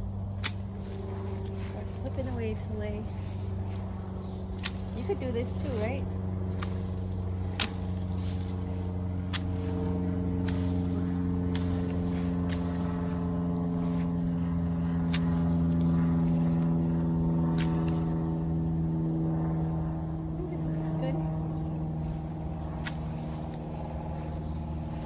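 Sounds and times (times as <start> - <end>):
low engine drone: 0.0 - 25.0
loppers snipping brush: 0.4 - 3.9, 4.5 - 18.2, 22.0 - 25.0.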